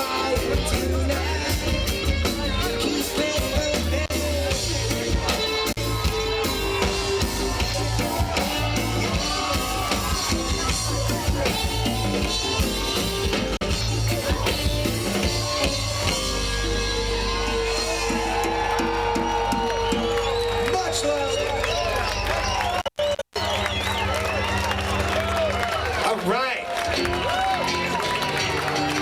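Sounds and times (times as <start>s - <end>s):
live reggae band playing: 0.0s - 26.0s, 26.8s - 29.0s.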